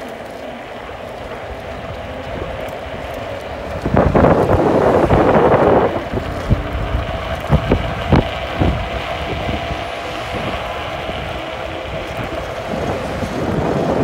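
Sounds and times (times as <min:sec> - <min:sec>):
road rumble: 0:00.0 - 0:14.0
wind rushing over microphone: 0:00.0 - 0:14.0.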